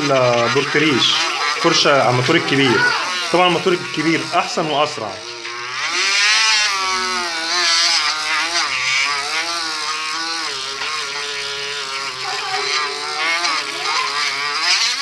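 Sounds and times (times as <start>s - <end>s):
electric motor spinning polishing brush: 0.0s - 15.0s.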